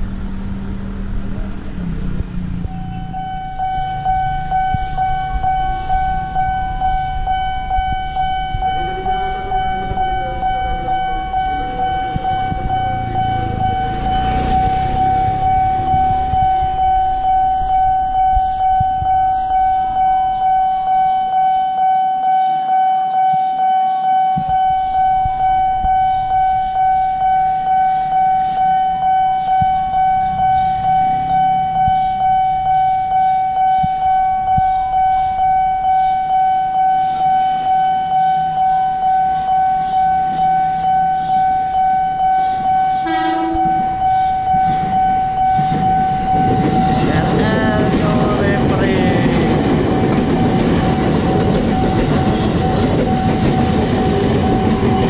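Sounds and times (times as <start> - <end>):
level crossing alarm ringing: 2.6 - 55.0.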